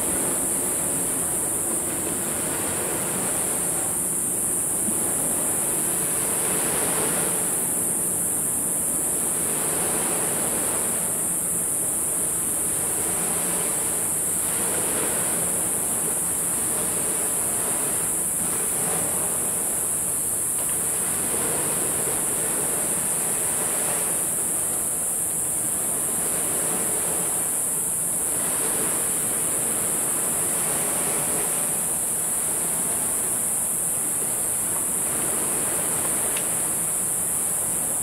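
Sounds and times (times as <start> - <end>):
small waves washing ashore: 0.0 - 38.0
steady high hiss: 0.0 - 38.0.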